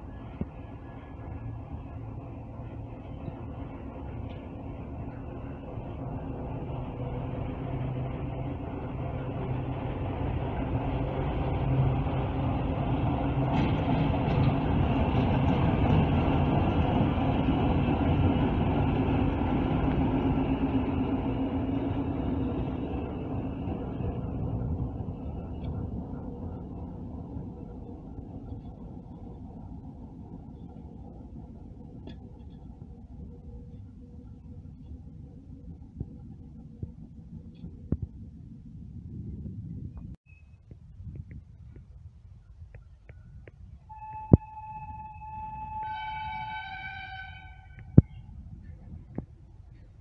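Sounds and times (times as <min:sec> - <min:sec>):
diesel locomotive passing: 0:00.0 - 0:39.8, 0:43.9 - 0:50.0.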